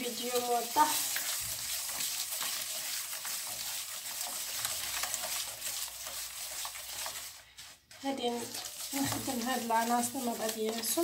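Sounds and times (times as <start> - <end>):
hand mixing eggs wet swishing: 0.0 - 11.0.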